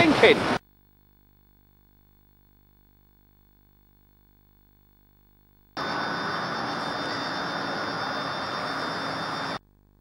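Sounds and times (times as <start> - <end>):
faint high whine: 0.0 - 10.0.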